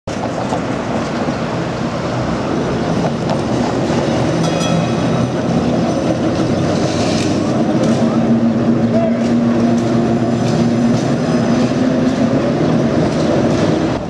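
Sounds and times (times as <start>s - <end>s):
streetcar wheels rumbling: 0.1s - 14.0s.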